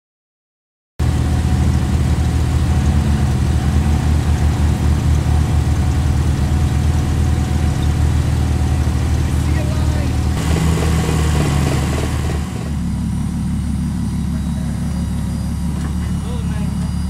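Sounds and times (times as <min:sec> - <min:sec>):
car engine idling: 0:01.0 - 0:17.0.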